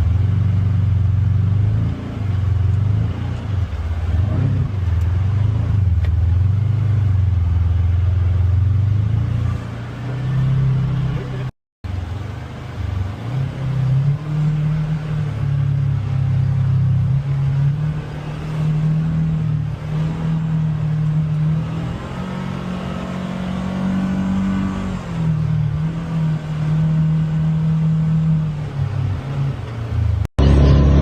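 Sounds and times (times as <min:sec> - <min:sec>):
vehicle engine running under load: 0:00.0 - 0:31.0.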